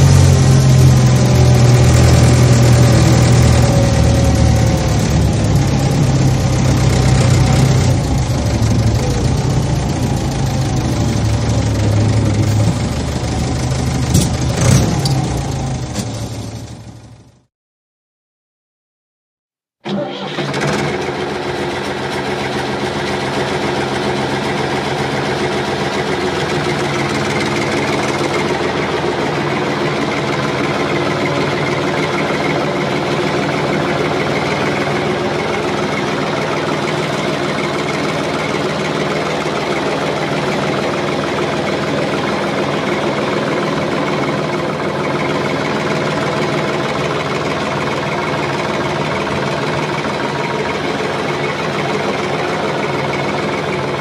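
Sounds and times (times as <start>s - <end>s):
heavy machine engine running: 0.0s - 17.5s, 19.9s - 54.0s.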